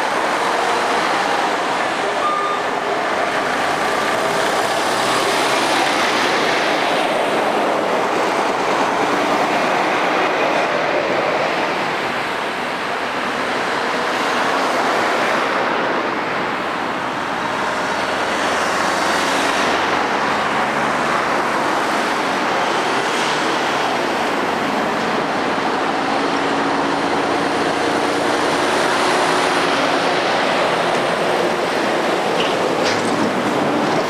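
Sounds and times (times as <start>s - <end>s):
cars passing: 0.0s - 34.0s
heavy lorries passing: 0.0s - 34.0s.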